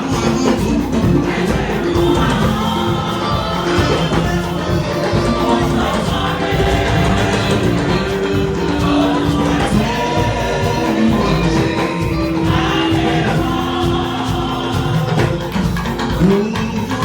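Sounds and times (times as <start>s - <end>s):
church choir singing: 0.0s - 17.0s
musical accompaniment: 0.0s - 17.0s.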